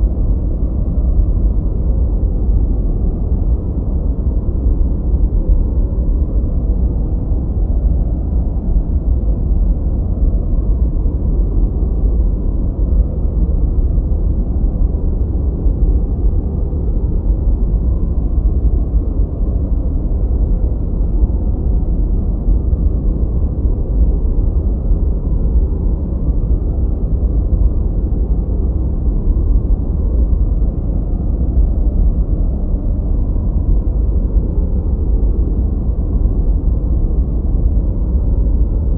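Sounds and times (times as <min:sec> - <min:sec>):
deep rushing brown noise: 0:00.0 - 0:38.9
faint steady hum: 0:00.0 - 0:38.9.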